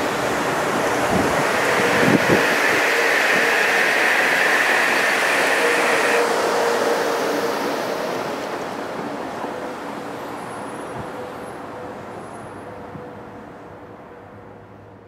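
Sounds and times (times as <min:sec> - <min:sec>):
train rolling away: 0:00.0 - 0:14.0.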